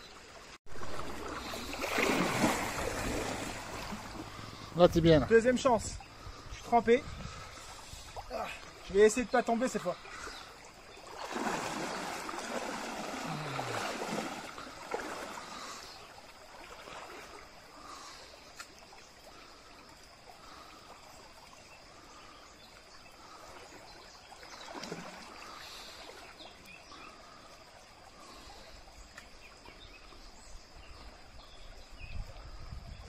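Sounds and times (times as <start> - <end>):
stream water sloshing and trickling: 0.0 - 33.0.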